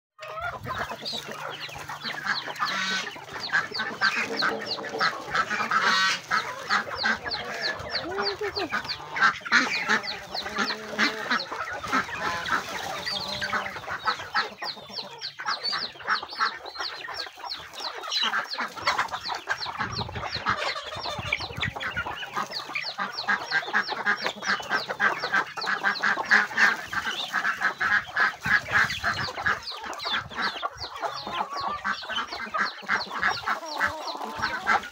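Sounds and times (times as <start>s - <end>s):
chickens clucking: 0.2s - 34.9s
geese honking: 0.2s - 34.9s.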